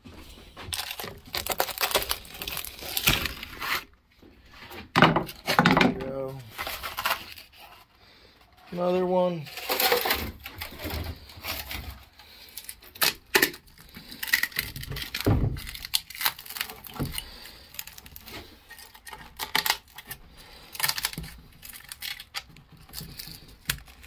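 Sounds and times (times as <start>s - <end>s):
fiberglass crackling and snapping: 0.4s - 4.0s, 4.8s - 7.9s, 8.8s - 24.0s.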